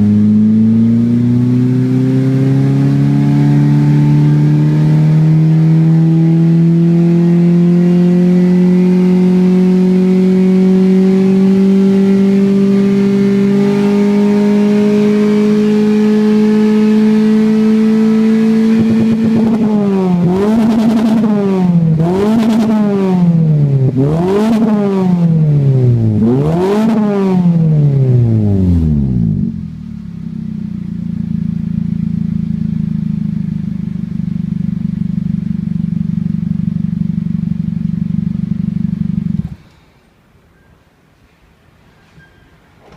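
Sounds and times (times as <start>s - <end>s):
car engine revving: 0.0s - 39.6s.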